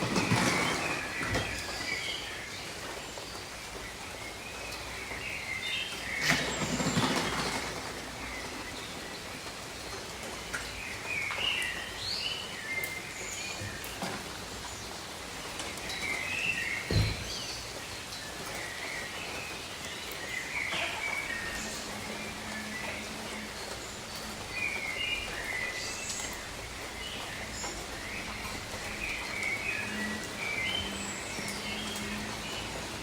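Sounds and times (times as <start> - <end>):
birds chirping: 0.0 - 33.0
rain falling: 0.0 - 33.0.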